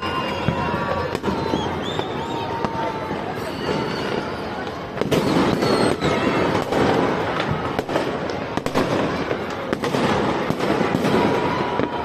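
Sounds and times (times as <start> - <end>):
firecrackers crackling: 0.0 - 12.0
fireworks bangs: 0.0 - 12.0.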